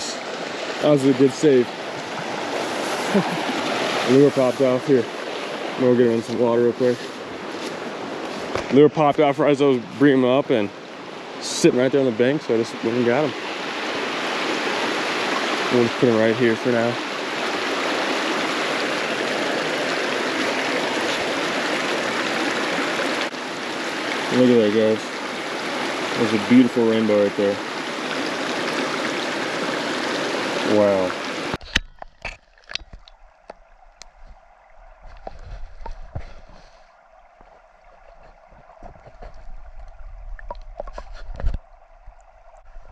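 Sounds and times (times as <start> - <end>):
water rushing over rocks: 0.0 - 42.9.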